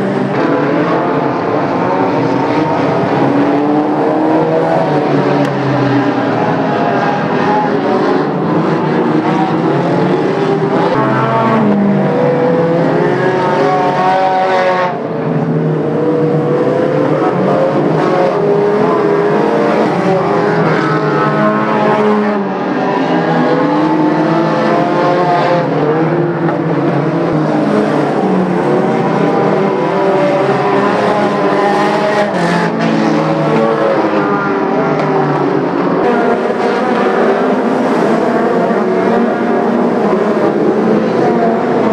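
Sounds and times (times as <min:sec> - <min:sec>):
racing car engines: 0:00.0 - 0:41.9.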